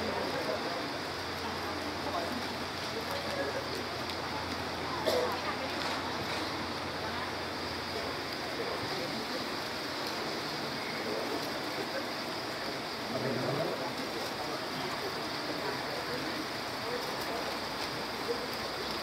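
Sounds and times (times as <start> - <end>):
crowd background hiss: 0.0 - 19.0
murmuring voices: 0.0 - 19.0.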